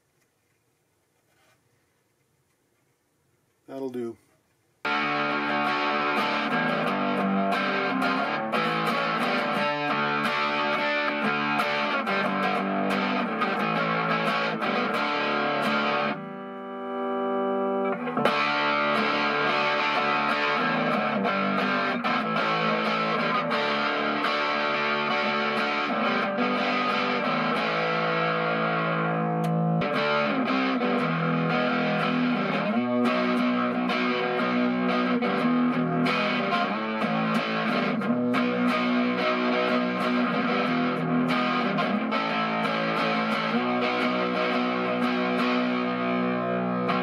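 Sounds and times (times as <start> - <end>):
distorted electric guitar riffs: 4.8 - 47.0.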